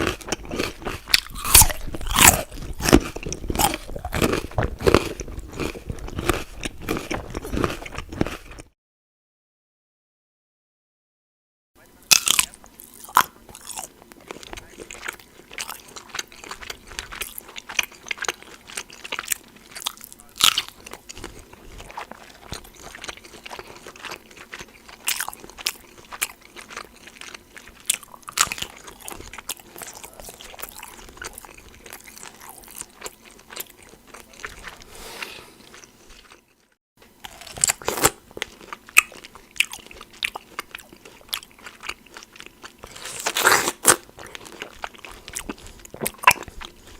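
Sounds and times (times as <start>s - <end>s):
biting and chewing pear: 0.0s - 8.7s, 12.1s - 46.9s
chewing sausage: 0.0s - 8.8s, 12.0s - 46.9s.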